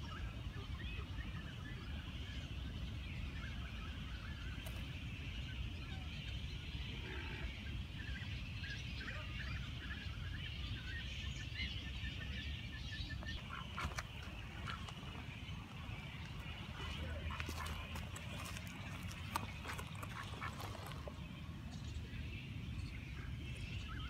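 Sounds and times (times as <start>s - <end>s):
birds chirping and calling: 0.0s - 24.0s.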